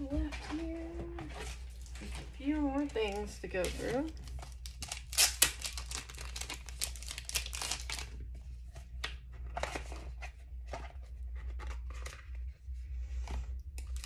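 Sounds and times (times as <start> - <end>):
packaging crinkling and rustling: 0.0 - 12.6, 13.2 - 14.0.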